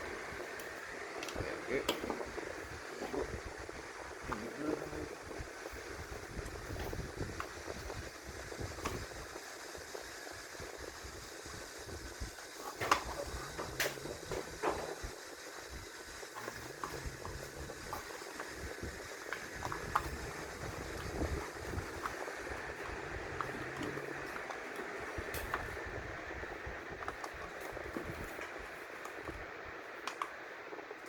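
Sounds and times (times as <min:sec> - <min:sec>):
low background rumble and hiss: 0:00.0 - 0:31.0.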